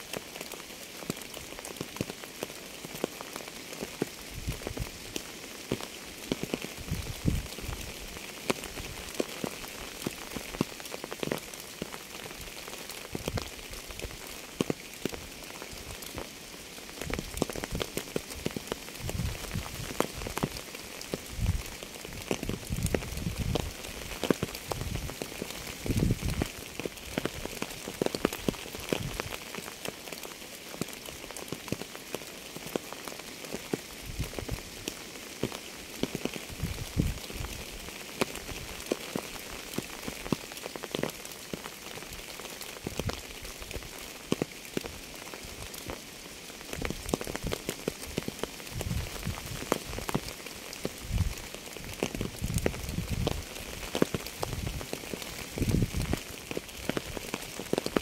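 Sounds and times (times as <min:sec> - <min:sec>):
rain falling: 0:00.0 - 0:58.0
raindrops tapping on a surface: 0:00.0 - 0:58.0.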